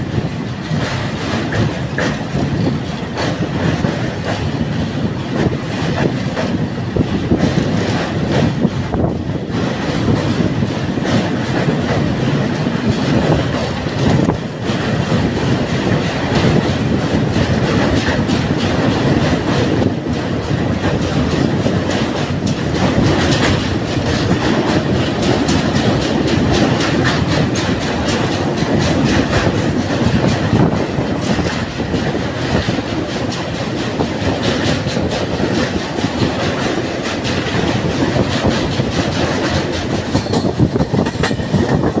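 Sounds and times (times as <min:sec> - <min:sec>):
train wheels rumbling on rails: 0:00.0 - 0:42.0
clicks over rail joints: 0:00.2 - 0:42.0.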